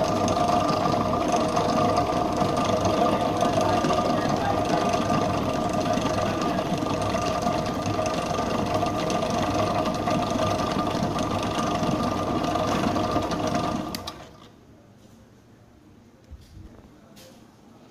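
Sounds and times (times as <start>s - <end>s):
mixer clicks: 0.0s - 14.5s
mixer motor humming: 0.0s - 14.5s.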